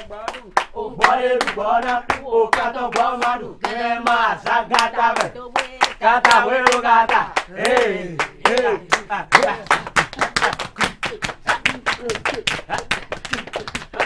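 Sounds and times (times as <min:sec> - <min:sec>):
hand clapping: 0:00.0 - 0:14.0
voices chanting a song: 0:00.0 - 0:14.0.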